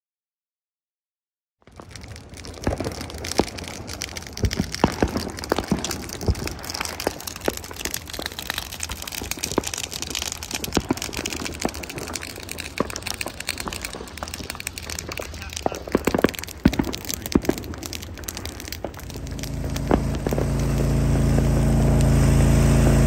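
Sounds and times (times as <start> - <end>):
grass fire crackling and popping: 1.6 - 23.0
fire rushing: 1.7 - 23.0.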